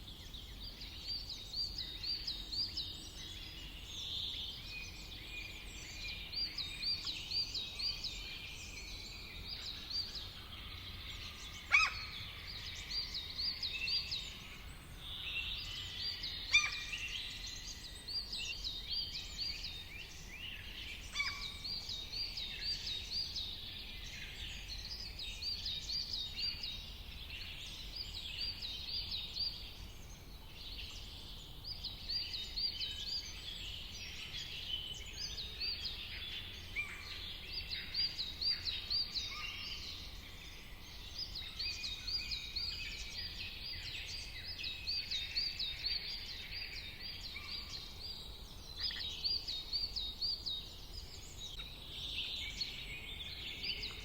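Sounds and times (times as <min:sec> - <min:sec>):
low background noise: 0:00.0 - 0:54.0
songbirds chirping and singing: 0:00.0 - 0:54.0.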